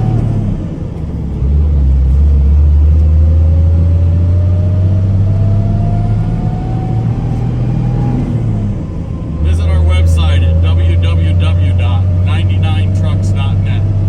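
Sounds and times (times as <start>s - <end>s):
diesel truck engine rumbling: 0.0s - 14.0s
engine whine rising in pitch: 0.0s - 14.0s.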